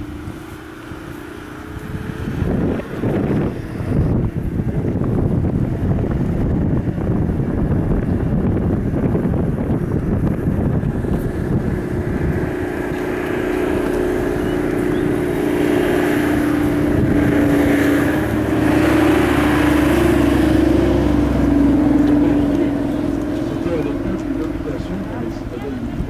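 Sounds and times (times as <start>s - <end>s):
motor engine drone: 0.0s - 26.0s
wind buffeting microphone: 0.0s - 26.0s.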